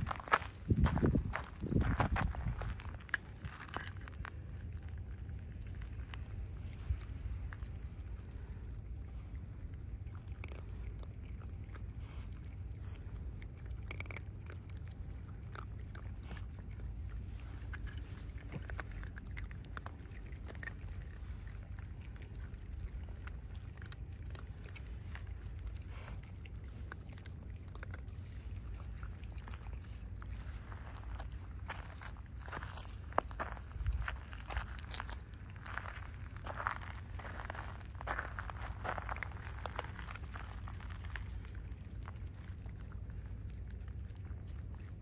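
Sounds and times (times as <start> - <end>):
animals crunching dry food: 0.0 - 45.0
steady low rumble: 0.0 - 45.0.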